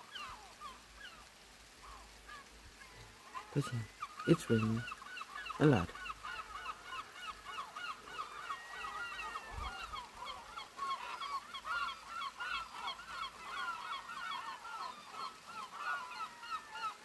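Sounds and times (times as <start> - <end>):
gulls calling: 0.0 - 17.0
heavy rain hiss: 0.0 - 17.0.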